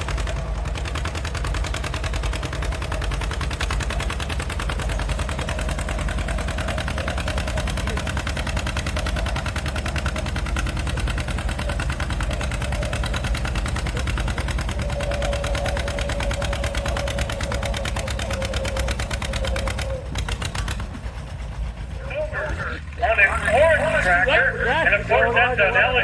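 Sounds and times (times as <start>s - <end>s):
tractor engine under load: 0.0s - 26.0s
steady whine: 2.3s - 26.0s.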